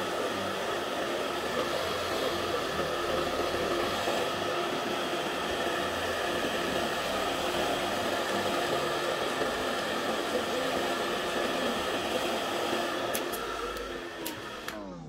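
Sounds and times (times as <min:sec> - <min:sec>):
hot-air blower running: 0:00.0 - 0:15.0.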